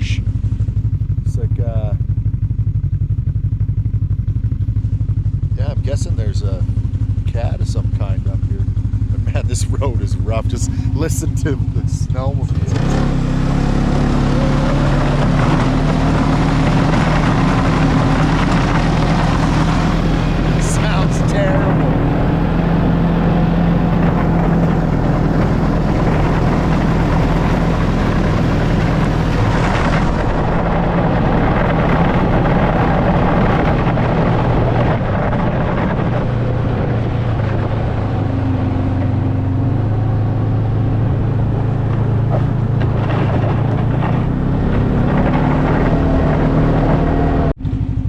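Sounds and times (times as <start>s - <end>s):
snowmobile engine running: 0.0s - 48.0s.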